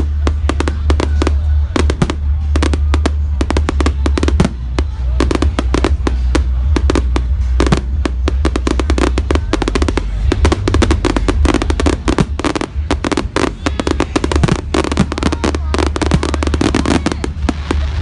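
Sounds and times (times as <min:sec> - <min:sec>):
deep rumble: 0:00.0 - 0:18.0
fireworks cracking and banging: 0:00.0 - 0:18.0.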